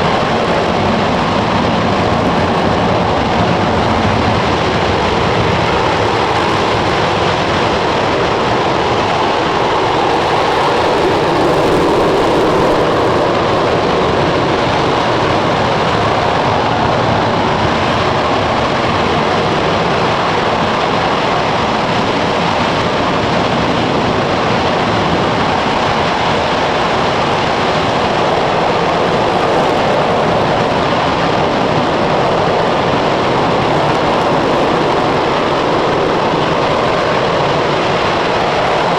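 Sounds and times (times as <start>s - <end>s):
rocket engine roaring: 0.0s - 38.9s.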